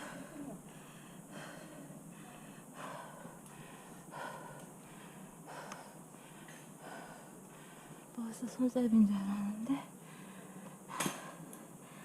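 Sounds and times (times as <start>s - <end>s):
person breathing hard: 0.0s - 8.2s, 9.9s - 12.0s.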